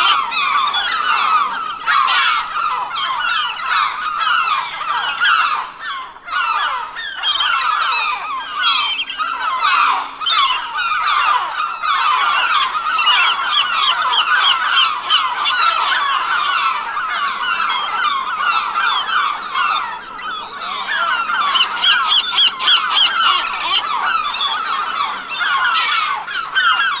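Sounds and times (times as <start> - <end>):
gulls calling: 0.0 - 27.0.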